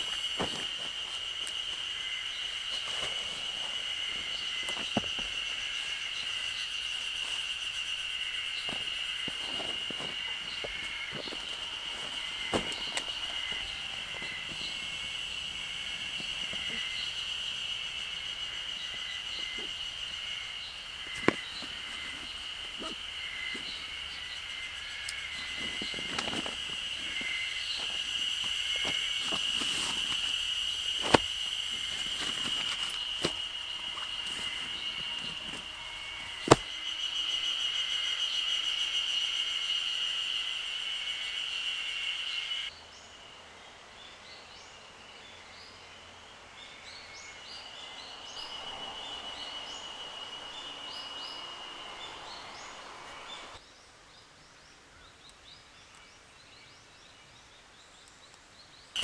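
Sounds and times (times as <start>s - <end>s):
high insect drone: 0.0s - 53.6s.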